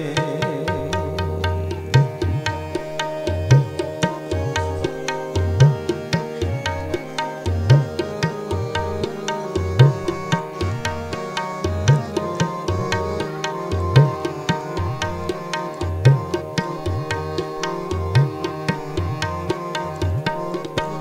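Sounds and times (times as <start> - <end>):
sustained melodic tones: 0.0 - 21.0
tabla playing: 0.0 - 21.0.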